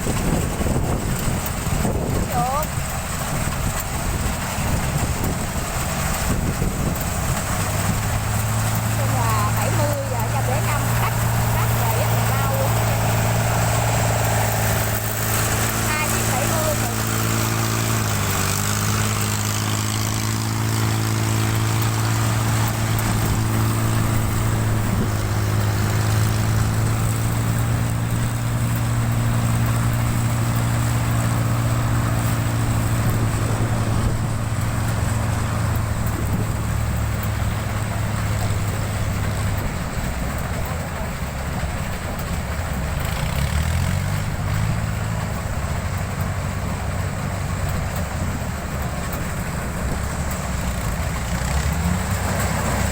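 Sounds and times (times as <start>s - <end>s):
combine harvester engine hum: 0.0s - 52.9s.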